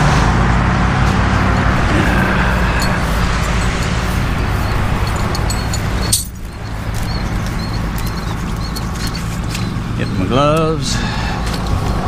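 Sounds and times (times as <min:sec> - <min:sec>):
truck engine idling: 0:01.0 - 0:12.0.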